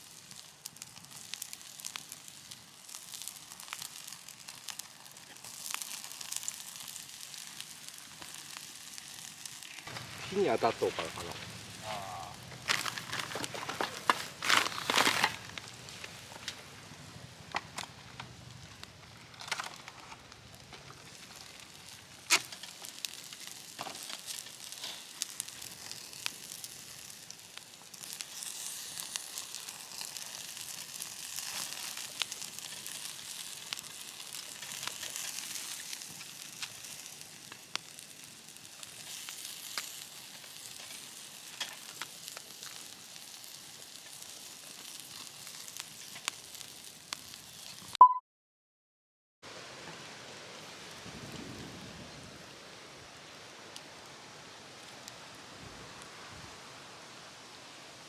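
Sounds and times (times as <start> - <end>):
campfire crackling: 0.0 - 48.0, 49.5 - 58.0
food sizzling on grill: 0.0 - 48.0, 49.5 - 58.0.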